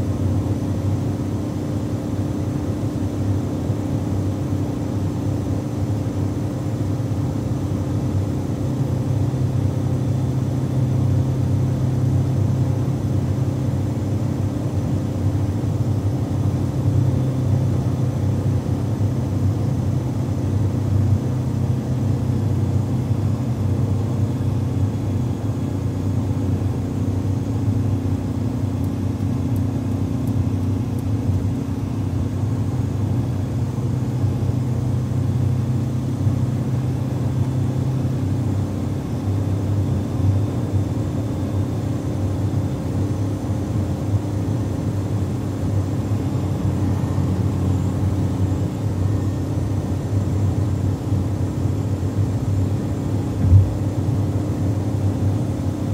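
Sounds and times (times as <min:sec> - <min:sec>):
car engine drone in cabin: 0:00.0 - 0:55.9.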